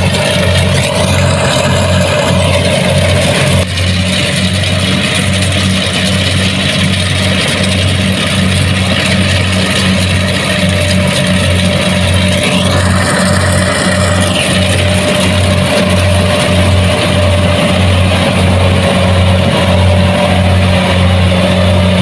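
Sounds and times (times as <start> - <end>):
diesel engine running: 0.0 - 22.0
machinery noise: 0.0 - 22.0.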